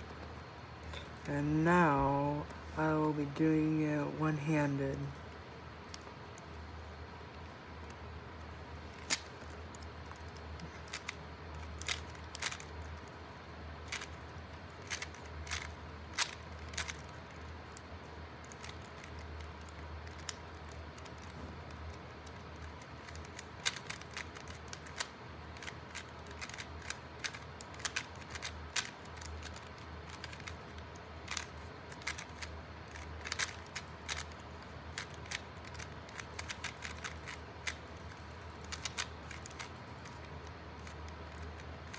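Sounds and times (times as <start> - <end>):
low steady hum: 0.0 - 41.9
puzzle cube plastic clicks: 7.7 - 41.9.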